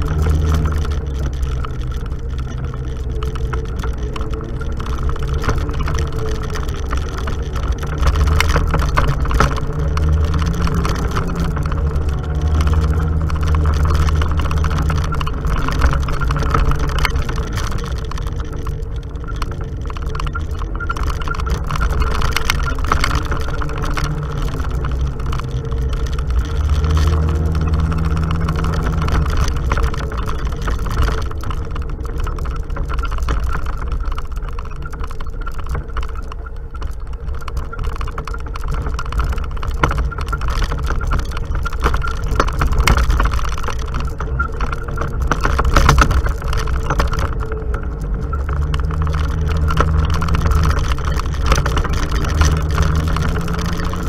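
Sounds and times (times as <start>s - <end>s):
off-road vehicle engine: 0.0s - 54.0s
vehicle knocks and rattles: 0.0s - 54.0s.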